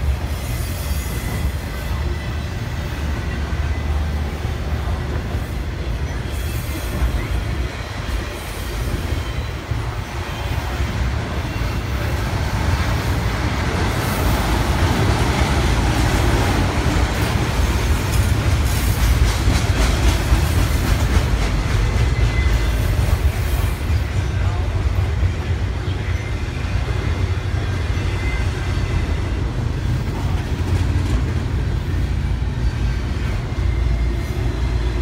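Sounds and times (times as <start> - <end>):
freight train rumbling past: 0.0 - 35.0
train wheel clatter: 4.8 - 35.0.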